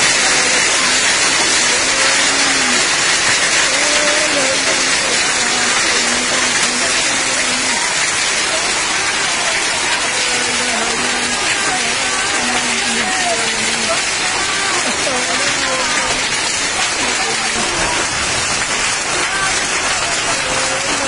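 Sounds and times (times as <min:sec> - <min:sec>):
faint voices: 0:00.0 - 0:21.0
heavy wind-driven rain: 0:00.0 - 0:21.0.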